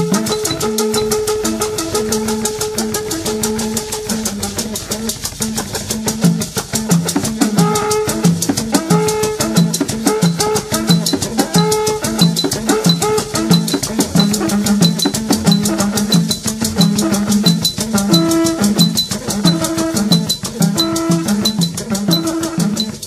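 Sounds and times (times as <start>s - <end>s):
drums fast beat: 0.0s - 23.0s
gospel band music: 0.0s - 23.0s.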